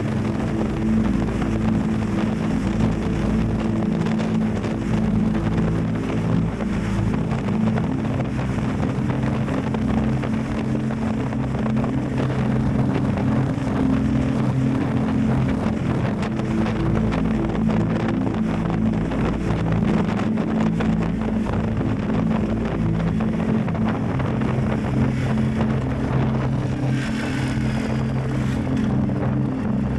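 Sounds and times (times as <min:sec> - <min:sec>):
motorcycle engine running: 0:00.0 - 0:29.9
wind buffeting microphone: 0:00.0 - 0:29.9.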